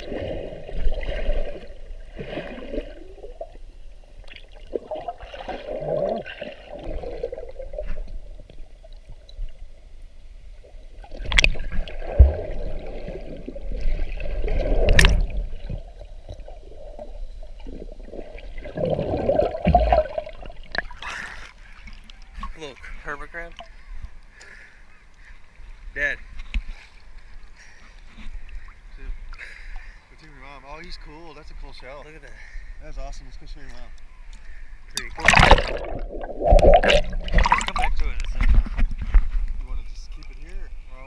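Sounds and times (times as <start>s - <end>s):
underwater sloshing and gurgling: 0.0s - 24.4s, 25.0s - 30.1s, 33.4s - 40.9s.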